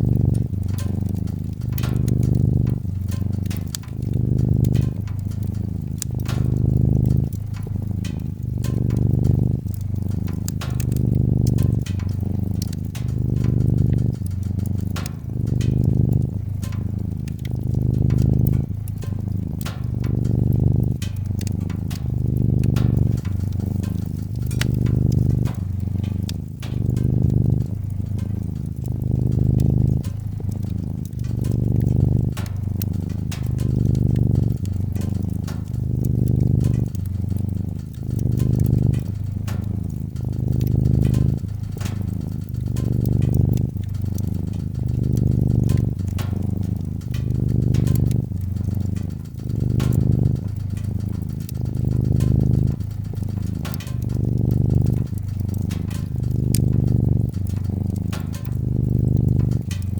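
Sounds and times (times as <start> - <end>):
cat purring: 0.0 - 59.9
fireplace crackles: 0.0 - 59.9.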